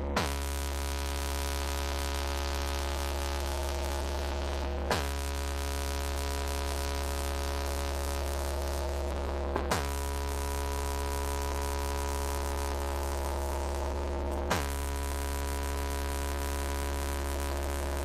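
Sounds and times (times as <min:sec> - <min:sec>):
deep humming drone: 0:00.0 - 0:18.0.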